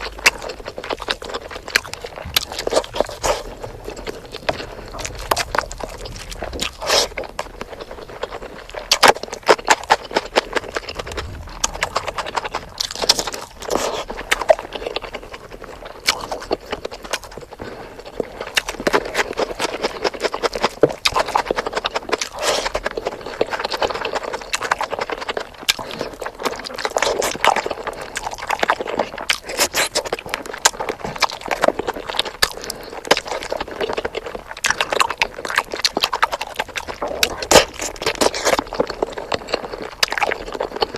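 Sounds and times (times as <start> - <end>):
chewing with mouth clicks: 0.0 - 40.9.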